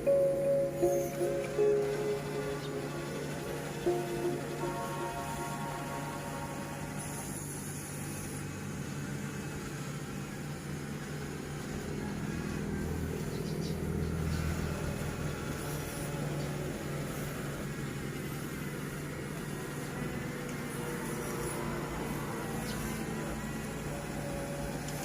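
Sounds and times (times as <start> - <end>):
electric motors humming: 0.0 - 25.0.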